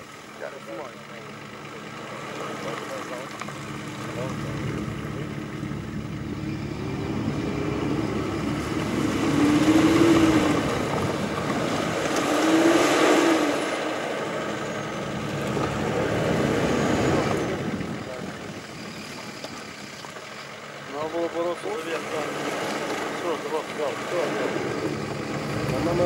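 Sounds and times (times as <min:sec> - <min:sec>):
suv engine revving: 0:00.0 - 0:26.0.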